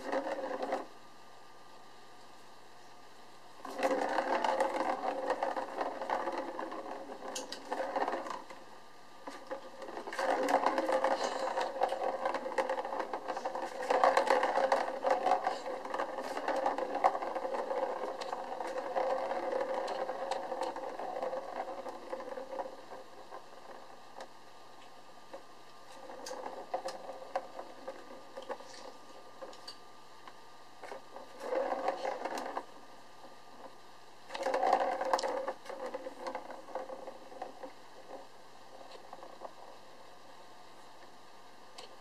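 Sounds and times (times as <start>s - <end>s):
plastic ball rolling rattle: 0.0s - 0.9s, 3.6s - 40.4s
steady hum: 0.0s - 42.0s.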